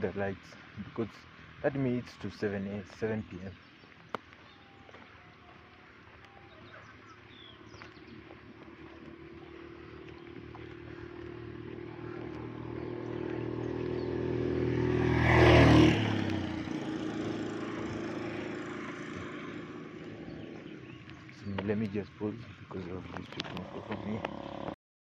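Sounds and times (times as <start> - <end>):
vehicle engine passing by: 4.5 - 24.8.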